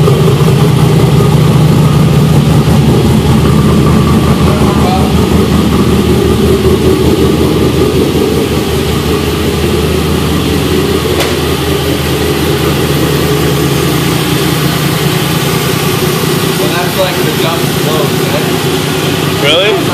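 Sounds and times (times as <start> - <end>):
engine idling loudly through exhaust: 0.0 - 19.9.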